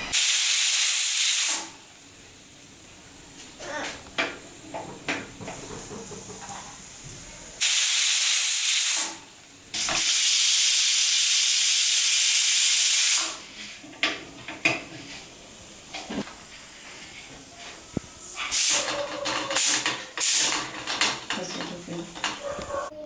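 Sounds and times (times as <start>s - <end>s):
pressure cooker venting steam: 0.0s - 22.6s.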